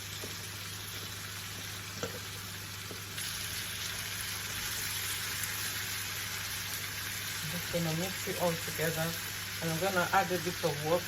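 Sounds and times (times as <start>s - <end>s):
meat and vegetables sizzling: 0.0s - 11.0s.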